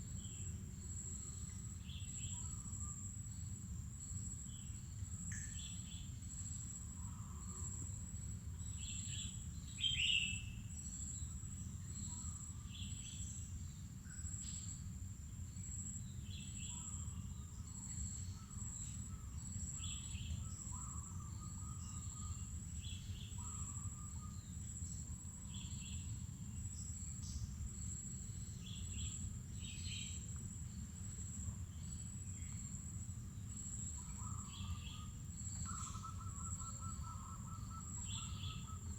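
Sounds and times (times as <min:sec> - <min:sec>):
insect drone: 0:00.0 - 0:38.9.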